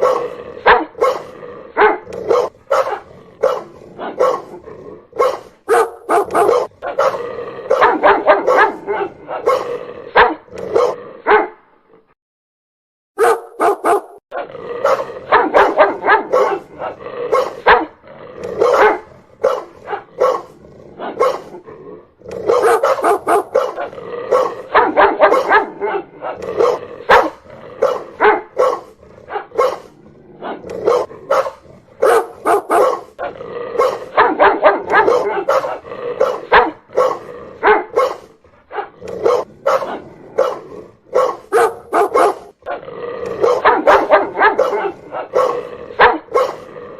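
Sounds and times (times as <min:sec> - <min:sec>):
dog barking: 0:00.0 - 0:11.6, 0:13.2 - 0:21.6, 0:22.4 - 0:46.7.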